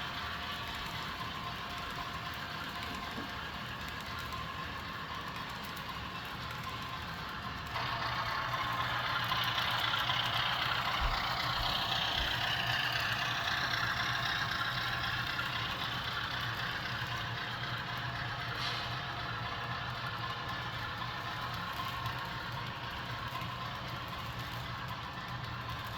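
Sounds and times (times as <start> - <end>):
model train engine drone: 0.0 - 25.9
rolling hiss on track: 0.0 - 25.9.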